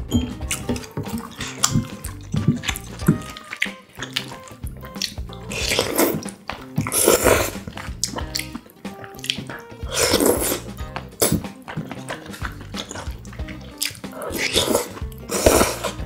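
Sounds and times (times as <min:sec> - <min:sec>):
wet noodle slurps: 0:01.0 - 0:04.4, 0:05.0 - 0:16.0.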